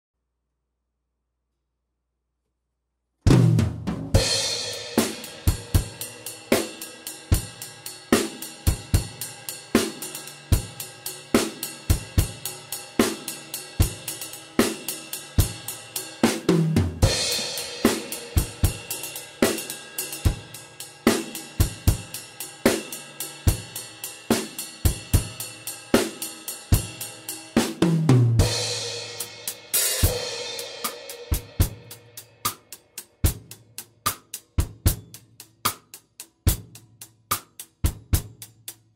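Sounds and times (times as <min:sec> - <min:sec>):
drum kit beat: 0:03.3 - 0:38.9.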